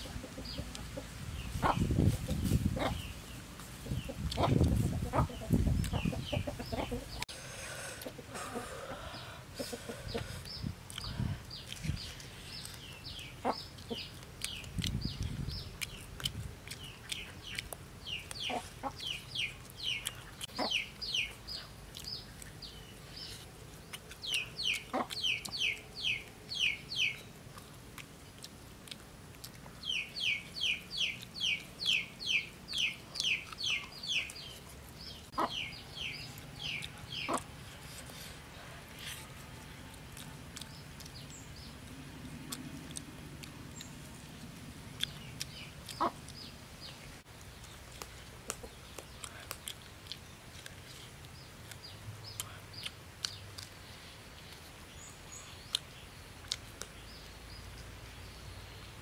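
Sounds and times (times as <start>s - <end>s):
chickens calling: 0.0s - 57.9s.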